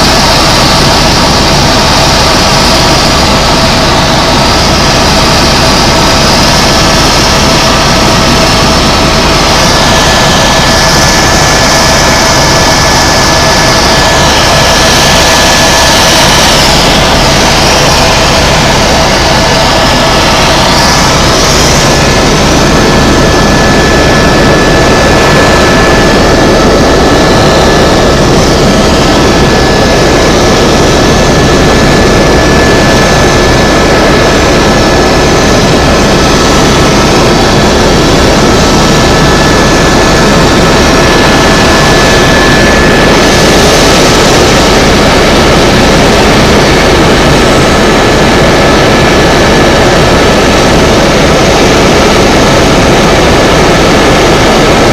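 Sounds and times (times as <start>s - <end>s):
helicopter rotor and turbine: 0.0s - 54.9s
high turbine whine: 0.0s - 54.9s.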